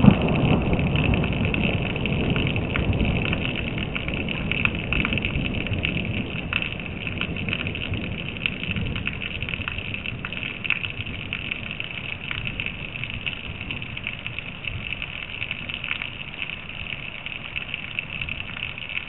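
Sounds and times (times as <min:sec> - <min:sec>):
raindrops crackling: 0:00.0 - 0:19.0
steady rain falling: 0:00.0 - 0:19.0.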